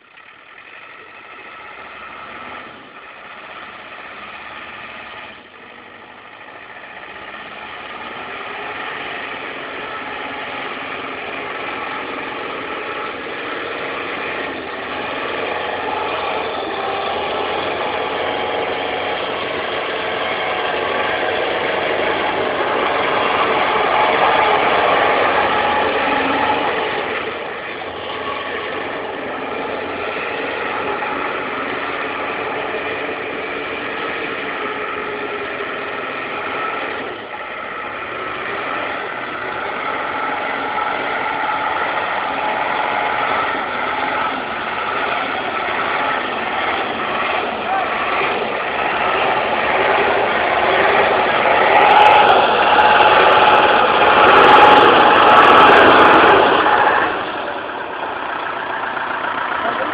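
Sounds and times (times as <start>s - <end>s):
truck diesel engine running hard: 0.0s - 59.9s.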